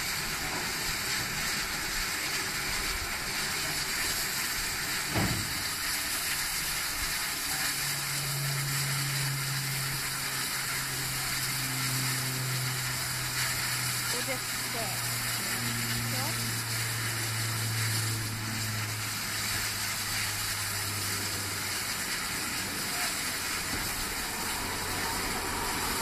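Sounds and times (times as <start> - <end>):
low steady hum: 0.0 - 26.0
steam locomotive hissing: 0.0 - 26.0.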